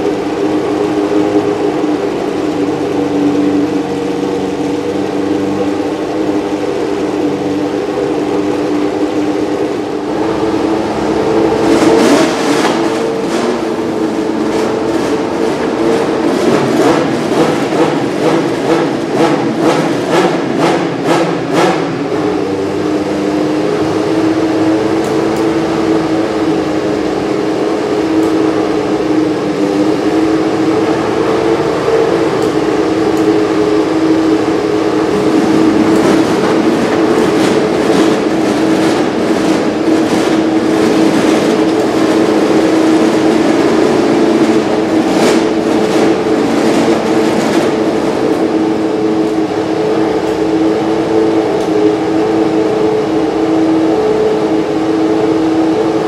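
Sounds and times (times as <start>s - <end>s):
racing car engine idling: 0.0s - 56.0s
racing car engine revving: 0.0s - 56.0s.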